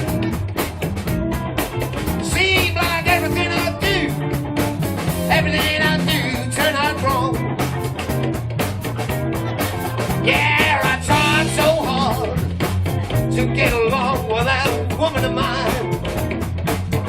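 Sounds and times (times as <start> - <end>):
electric blues band playing: 0.0 - 17.0.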